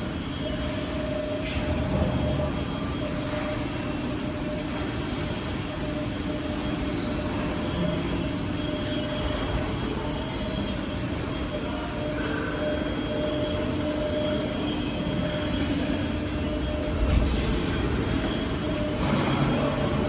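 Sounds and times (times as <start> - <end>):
machine mechanical hum: 0.0 - 20.0.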